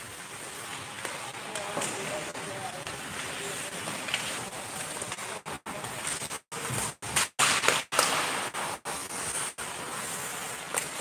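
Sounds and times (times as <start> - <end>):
hockey sticks hitting puck: 0.0 - 11.0
skates scraping ice: 0.0 - 11.0.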